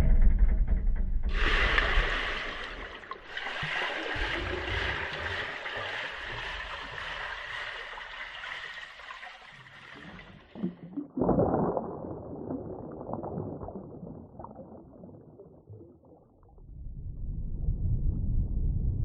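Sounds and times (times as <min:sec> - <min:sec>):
churning water underwater: 0:00.0 - 0:19.0.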